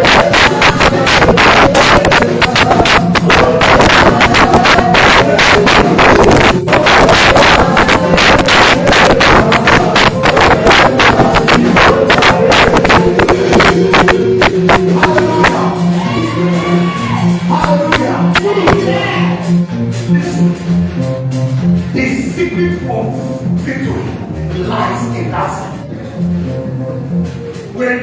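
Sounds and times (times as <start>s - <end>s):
fast percussion beat: 0.0s - 26.4s
loud worship music: 0.0s - 28.0s.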